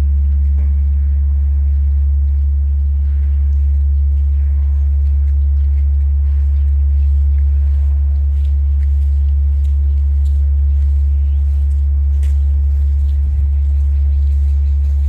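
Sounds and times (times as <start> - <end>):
bronze bell low hum: 0.0 - 15.0.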